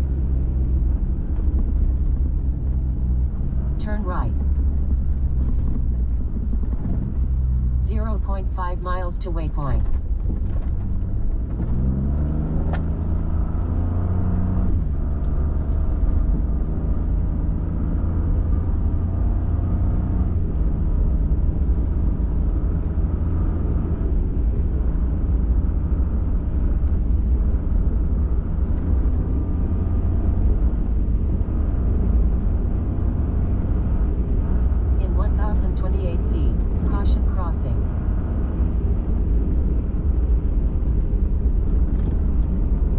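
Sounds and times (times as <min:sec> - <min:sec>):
road rumble: 0:00.0 - 0:42.9.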